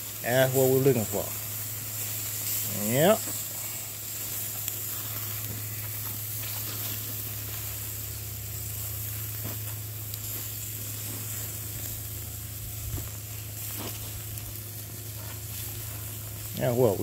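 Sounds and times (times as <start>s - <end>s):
chicken sizzling on grill: 0.0s - 17.0s
low hum: 1.1s - 16.6s.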